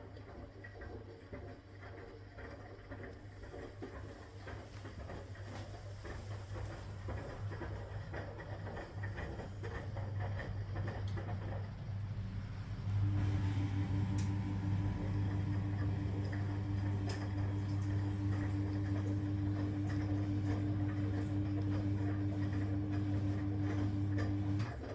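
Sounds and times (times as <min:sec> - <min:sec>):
washing machine motor hum: 0:00.0 - 0:24.9.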